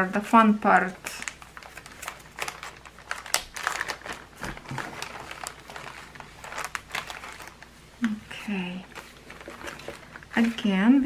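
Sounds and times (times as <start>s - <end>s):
plastic bag crinkling: 0.8s - 11.0s.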